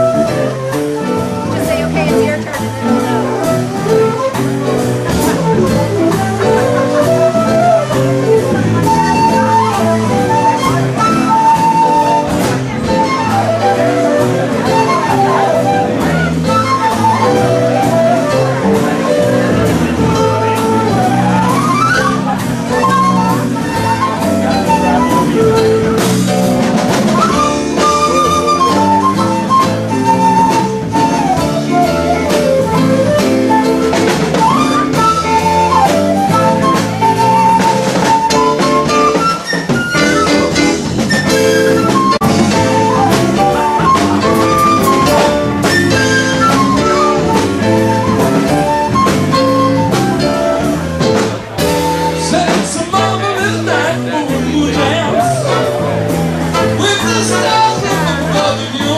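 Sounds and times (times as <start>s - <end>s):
wandering lead melody: 0.0s - 54.2s
drum kit beat: 0.0s - 58.9s.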